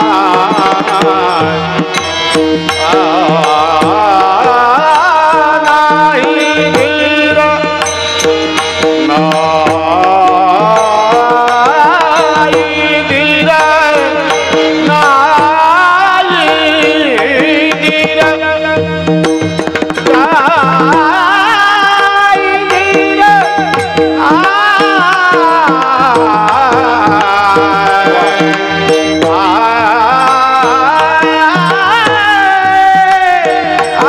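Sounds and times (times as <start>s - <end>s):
man singing ornamented notes: 0.0s - 34.0s.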